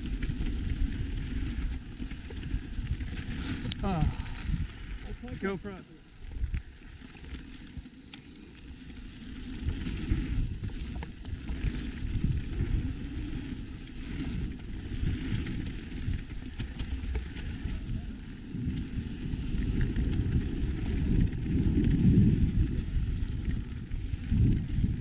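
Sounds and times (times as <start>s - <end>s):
wind noise on microphone: 0.0s - 5.4s, 6.2s - 7.1s, 8.8s - 25.0s
bike tyre rumble on dirt trail: 0.0s - 25.0s.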